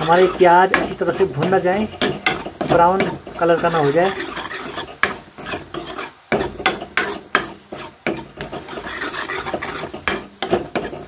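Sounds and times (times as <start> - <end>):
metal spoon scraping pan: 0.0 - 11.0
onions frying in oil: 0.0 - 11.0.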